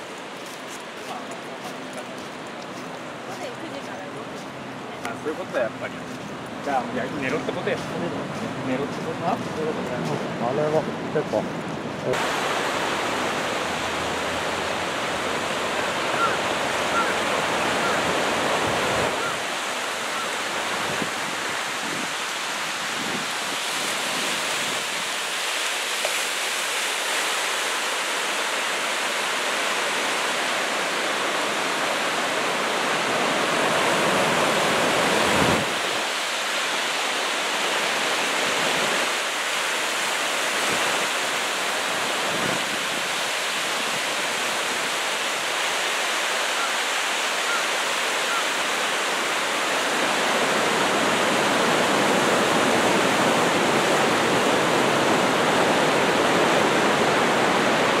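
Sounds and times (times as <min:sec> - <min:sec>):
surf washing up on beach: 0:00.0 - 0:58.0.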